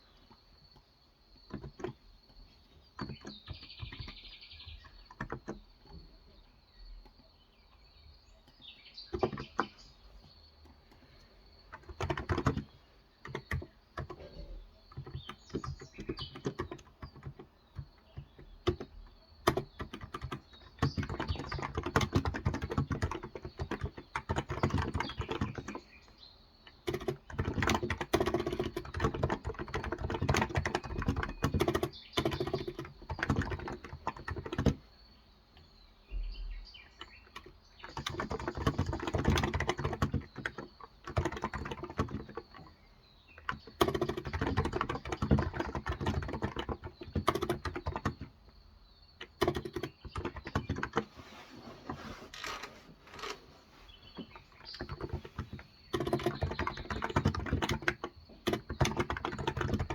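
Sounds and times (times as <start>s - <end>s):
rapid keyboard typing: 0.2s - 6.1s, 9.1s - 9.8s, 10.6s - 34.9s, 37.0s - 51.1s, 54.1s - 59.9s.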